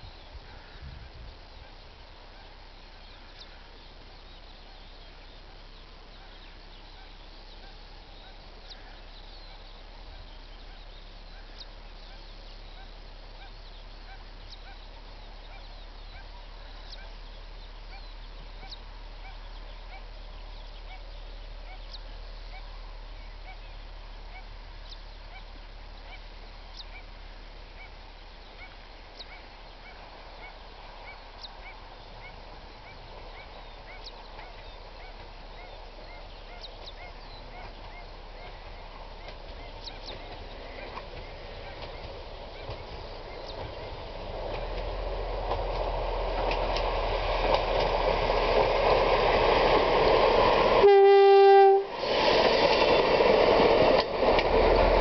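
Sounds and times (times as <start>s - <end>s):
birds calling: 0.0s - 51.0s
low steady rumble: 0.0s - 52.0s.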